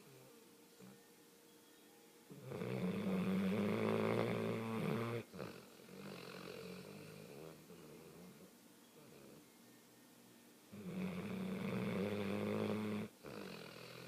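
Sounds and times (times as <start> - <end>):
dog snoring: 0.0 - 1.1, 2.3 - 9.5, 10.7 - 14.0.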